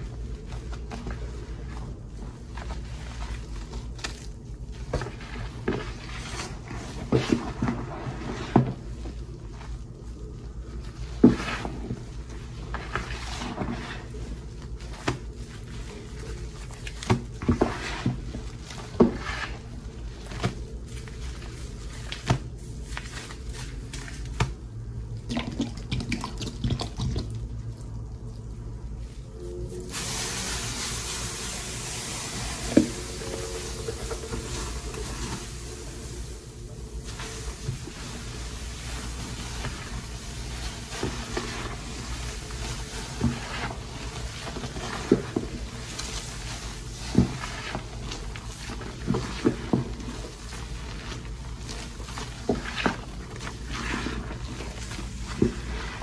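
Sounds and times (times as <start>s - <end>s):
sponge squelching in soap foam: 0.0s - 56.0s.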